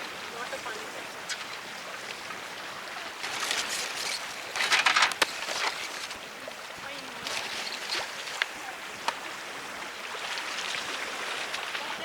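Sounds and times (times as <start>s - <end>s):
sea water splashing: 0.0s - 12.0s
steady water hiss: 0.0s - 12.0s.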